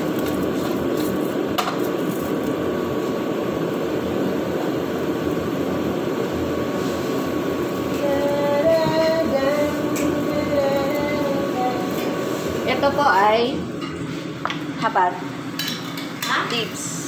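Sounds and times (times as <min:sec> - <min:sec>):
range hood fan rushing: 0:00.0 - 0:17.0.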